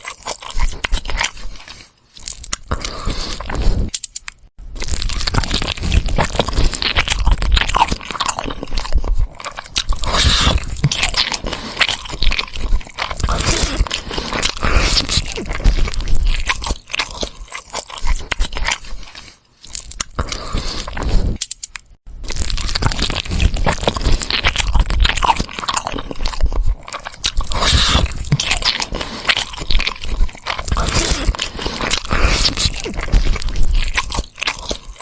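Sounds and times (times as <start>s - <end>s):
biting and crunching food: 0.0s - 35.0s.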